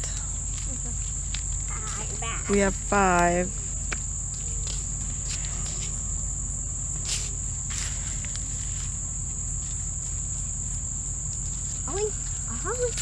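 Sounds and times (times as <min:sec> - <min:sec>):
insect chorus shrilling: 0:00.0 - 0:13.0
leaves rustling: 0:00.0 - 0:13.0.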